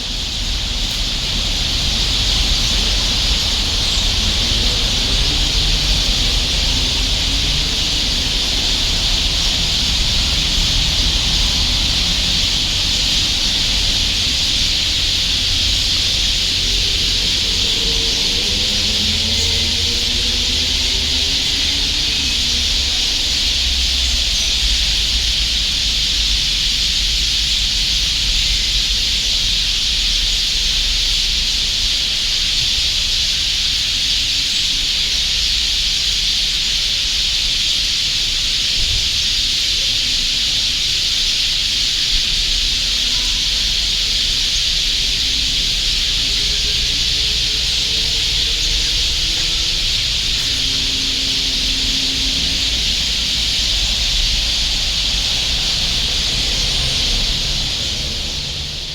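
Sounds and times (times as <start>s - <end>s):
flock of sparrows chirping: 0.0s - 58.9s.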